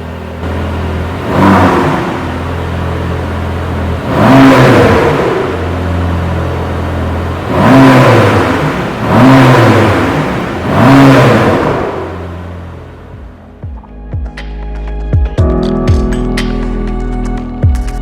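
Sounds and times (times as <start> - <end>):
car engine idling and revving: 0.0 - 15.4.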